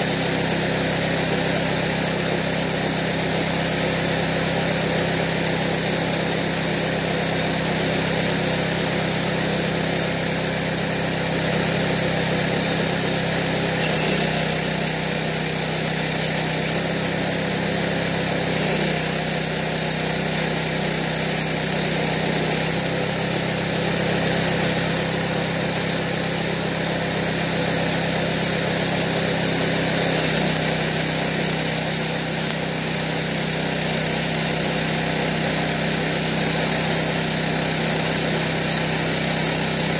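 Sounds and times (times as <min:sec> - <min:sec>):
small engine running: 0:00.0 - 0:39.9
welding arc crackle: 0:07.8 - 0:39.9.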